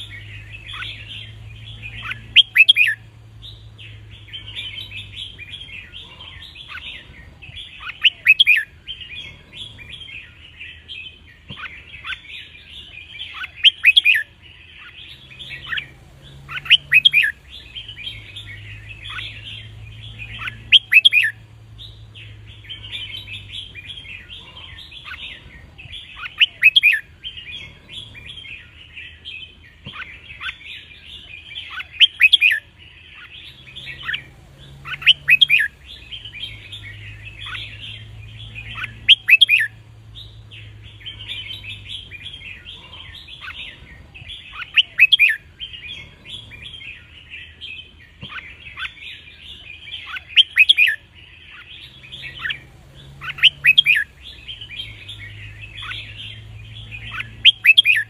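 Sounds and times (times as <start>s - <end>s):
bird chattering: 0.0s - 58.0s
sharp bird song phrases: 0.0s - 58.0s.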